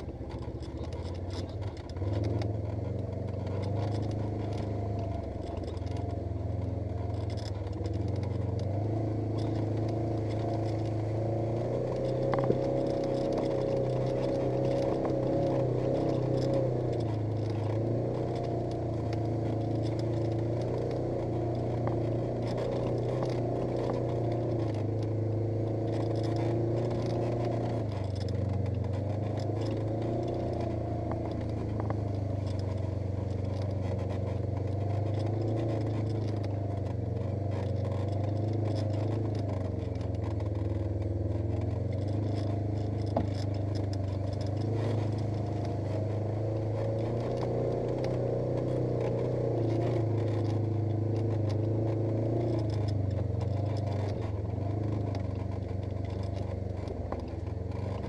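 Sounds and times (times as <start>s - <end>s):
engine running: 0.0s - 58.0s
light rattling: 0.0s - 58.0s.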